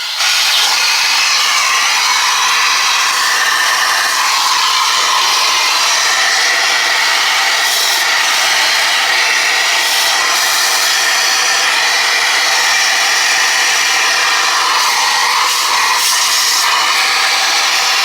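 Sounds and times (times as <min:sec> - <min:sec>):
vacuum hose sucking air: 0:00.0 - 0:18.0.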